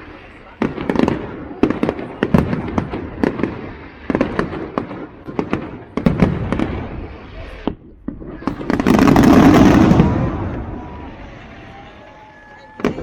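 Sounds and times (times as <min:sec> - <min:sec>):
fireworks sharp bangs: 0:00.0 - 0:13.0
rumble of explosions: 0:00.1 - 0:12.0.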